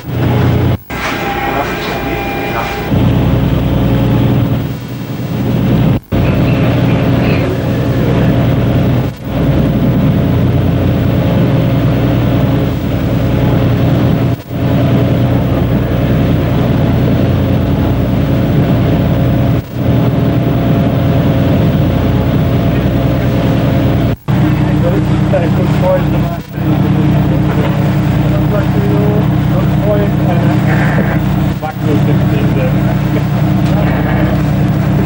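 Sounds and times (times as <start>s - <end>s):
engine drone: 0.0s - 35.0s.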